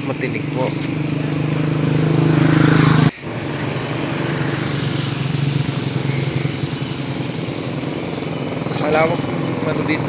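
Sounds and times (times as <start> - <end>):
high falling chirps: 0.9 - 9.8
small boat engine humming: 1.4 - 10.0.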